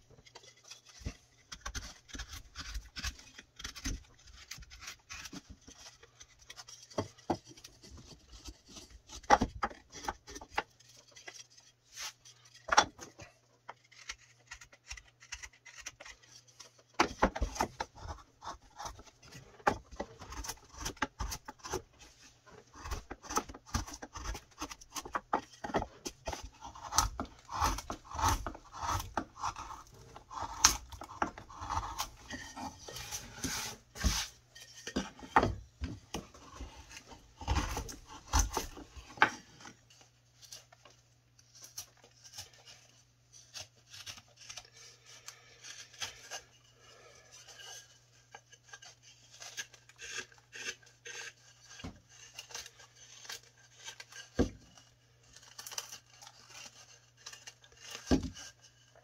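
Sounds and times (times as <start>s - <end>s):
knife scraping wood: 0.0s - 59.0s.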